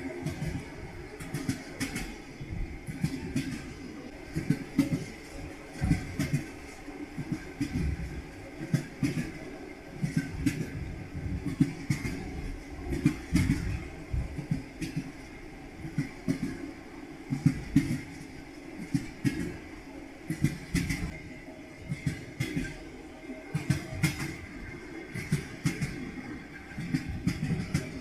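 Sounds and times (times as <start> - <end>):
train wheels clattering over rail joints: 0.0 - 16.7, 17.3 - 19.7, 20.3 - 21.2, 21.8 - 22.9, 23.5 - 28.0.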